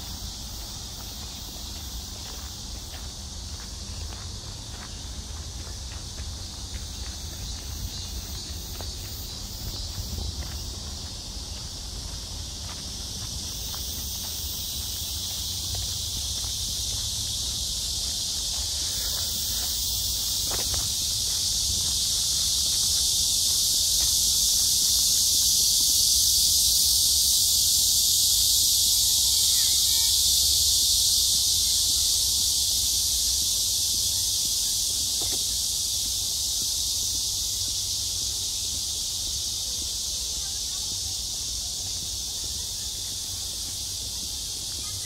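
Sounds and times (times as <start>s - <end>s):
cicadas buzzing: 0.0s - 45.0s.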